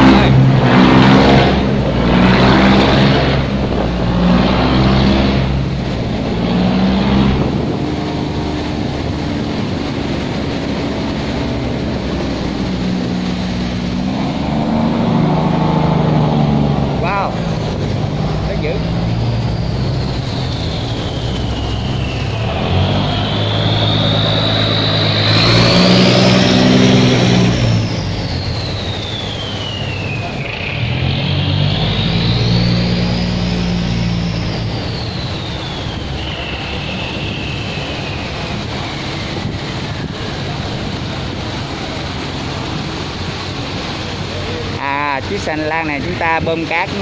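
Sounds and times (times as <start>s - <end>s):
barge engines running: 0.0s - 47.0s
high whine: 0.0s - 47.0s
water rushing: 0.0s - 47.0s.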